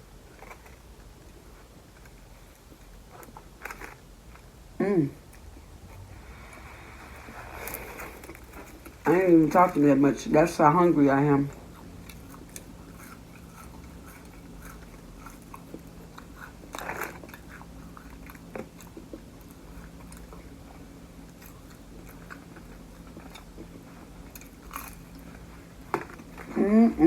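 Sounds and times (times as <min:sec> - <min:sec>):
chewing food: 0:00.0 - 0:04.5, 0:05.2 - 0:27.0.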